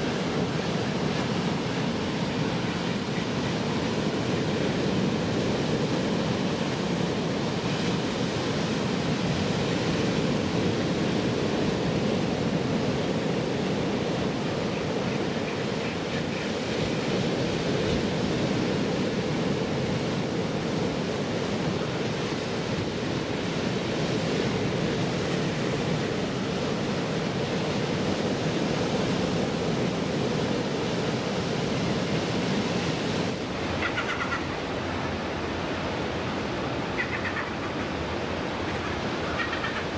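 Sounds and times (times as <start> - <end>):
sea surf washing over rocks: 0.0 - 39.9.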